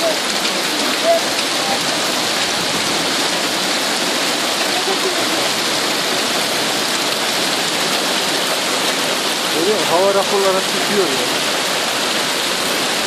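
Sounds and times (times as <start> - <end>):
hail and rain pelting pavement: 0.0 - 13.0.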